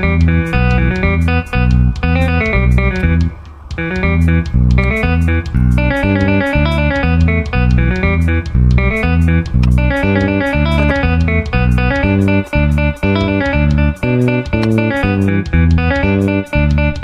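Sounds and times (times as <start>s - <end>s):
bass line: 0.0s - 17.0s
plucked guitar music with beat: 0.0s - 17.0s.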